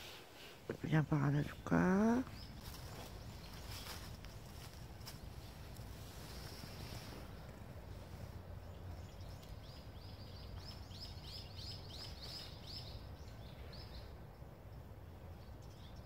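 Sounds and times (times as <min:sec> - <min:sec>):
faint outdoor rumble: 0:00.0 - 0:16.0.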